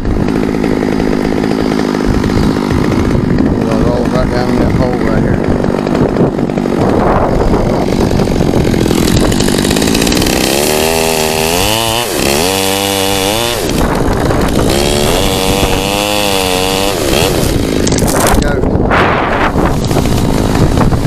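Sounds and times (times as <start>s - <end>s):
chainsaw cutting: 0.0s - 21.0s.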